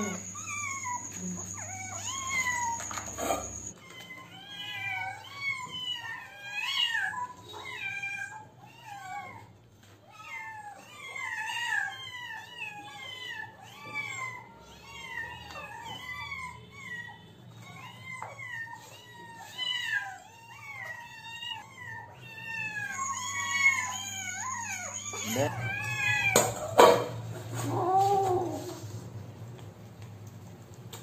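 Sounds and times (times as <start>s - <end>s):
kittens meowing: 0.0s - 27.0s.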